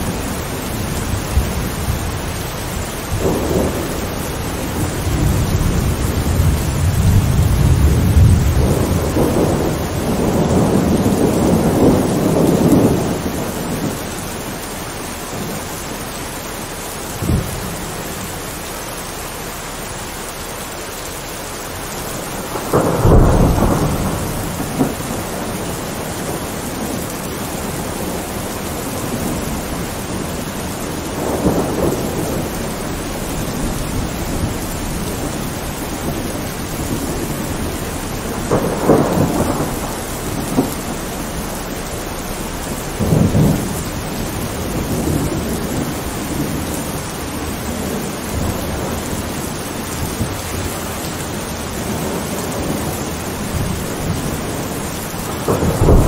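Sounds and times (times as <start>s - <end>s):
low rolls of thunder: 0.0s - 16.1s, 16.9s - 18.2s, 21.9s - 56.0s
steady rain: 0.0s - 56.0s.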